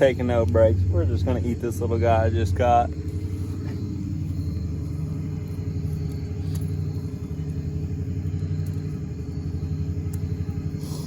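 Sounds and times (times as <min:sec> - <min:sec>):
low engine rumble pulsing: 0:00.0 - 0:11.0.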